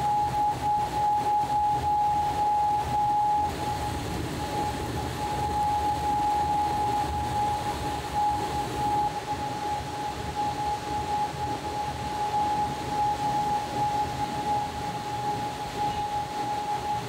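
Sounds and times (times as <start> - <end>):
high-pitched hum: 0.0 - 17.0.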